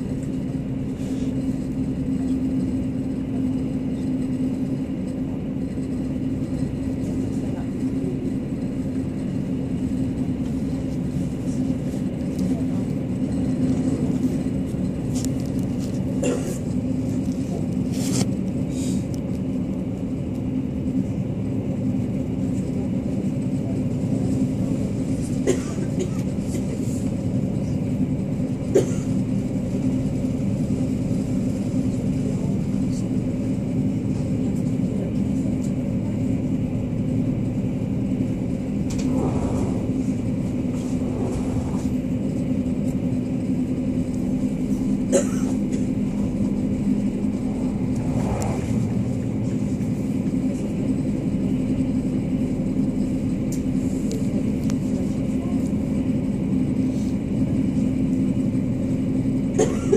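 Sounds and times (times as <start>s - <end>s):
constant low drone: 0.0s - 59.9s
train wheels rumbling on rail: 0.0s - 59.9s.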